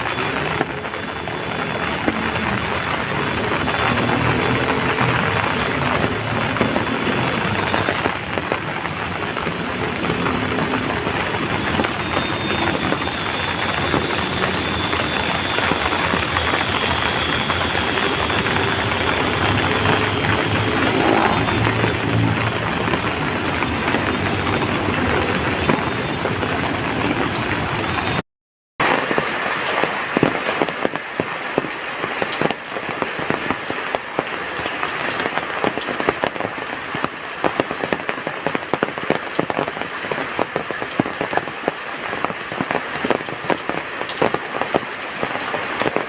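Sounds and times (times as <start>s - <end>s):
heavy rain falling: 0.0s - 28.2s, 28.8s - 46.0s.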